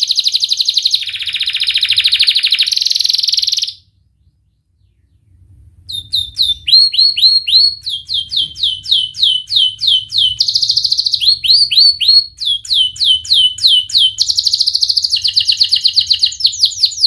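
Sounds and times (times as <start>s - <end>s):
canary singing trills: 0.0s - 17.0s.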